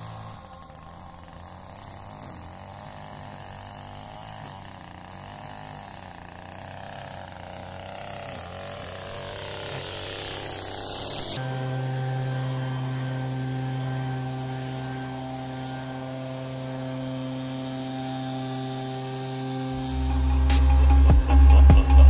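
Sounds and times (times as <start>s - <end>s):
string trimmer engine cutting grass: 0.0s - 22.0s.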